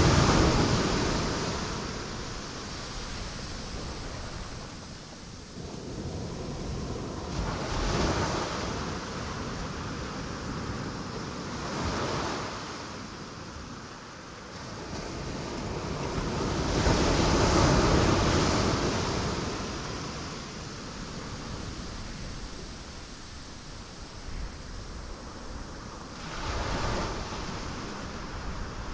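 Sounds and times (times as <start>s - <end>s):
ocean waves breaking on rocks: 0.0s - 12.7s, 14.6s - 28.9s.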